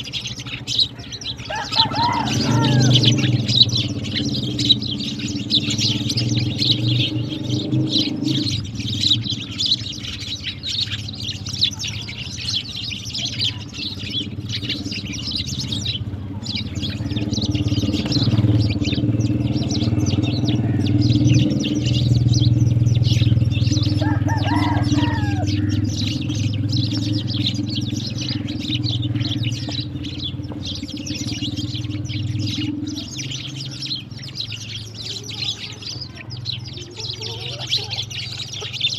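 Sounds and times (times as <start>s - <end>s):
low motor hum: 0.0s - 38.9s
sparrows chirping: 0.0s - 38.9s.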